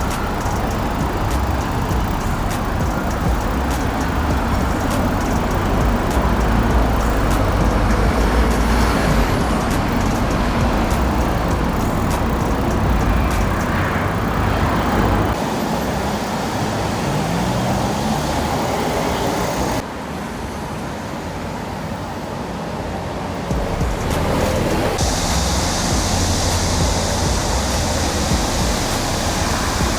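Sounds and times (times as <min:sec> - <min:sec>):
road traffic rumble: 0:00.0 - 0:20.2, 0:21.7 - 0:29.9.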